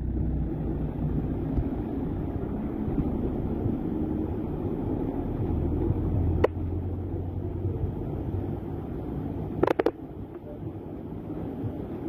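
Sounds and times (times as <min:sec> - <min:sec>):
vehicle engine passing: 0:00.0 - 0:09.8.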